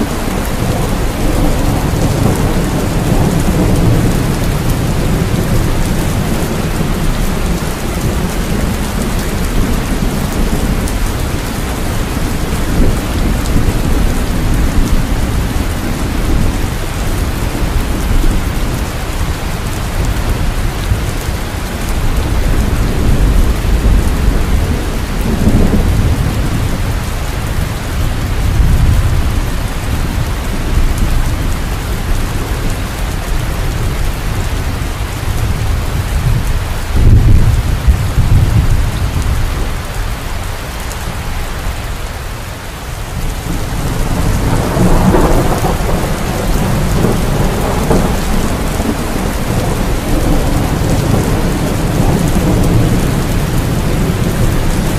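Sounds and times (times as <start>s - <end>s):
rolling thunder: 0.0s - 39.9s, 43.1s - 54.9s
heavy rain: 0.0s - 54.9s.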